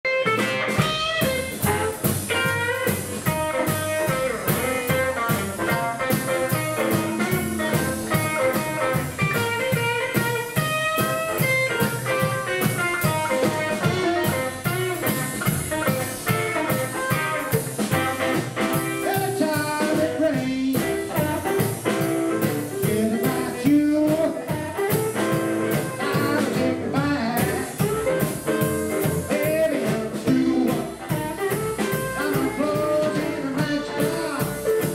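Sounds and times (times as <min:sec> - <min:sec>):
drum kit: 0:00.0 - 0:34.9
acoustic guitar: 0:00.1 - 0:34.9.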